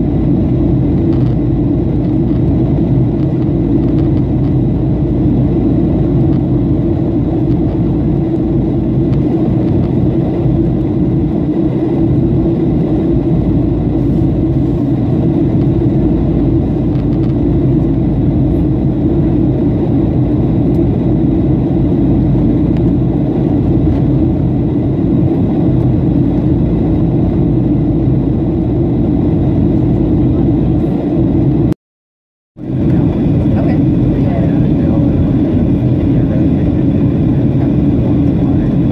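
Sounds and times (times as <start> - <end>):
rushing air: 0.0 - 31.7
jet engine drone in cabin: 0.0 - 31.8, 32.6 - 38.9.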